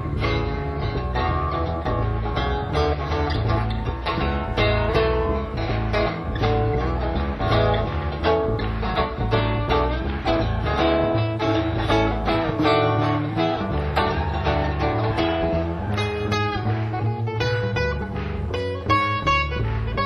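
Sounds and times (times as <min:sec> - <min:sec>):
acoustic guitar picking: 0:00.0 - 0:20.0
low bass notes: 0:00.0 - 0:20.0.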